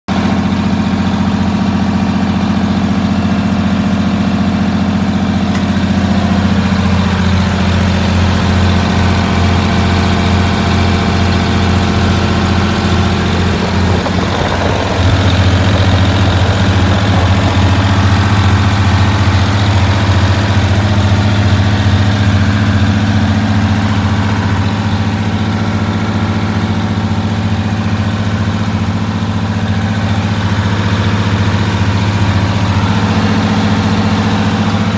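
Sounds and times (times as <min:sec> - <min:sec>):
bus diesel engine idling: 0:00.1 - 0:34.9.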